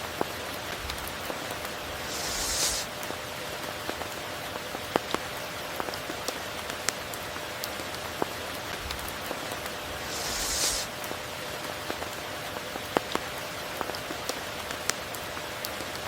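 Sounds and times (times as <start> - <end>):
rain hiss: 0.1 - 15.0.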